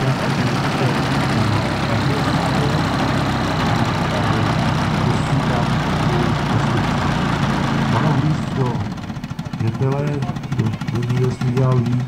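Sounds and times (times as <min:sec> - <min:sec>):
model plane engine running: 0:00.0 - 0:12.0.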